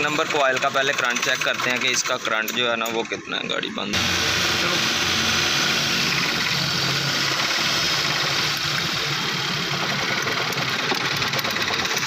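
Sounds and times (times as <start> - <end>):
car engine idling with misfire: 0.0 - 3.2, 4.0 - 12.0.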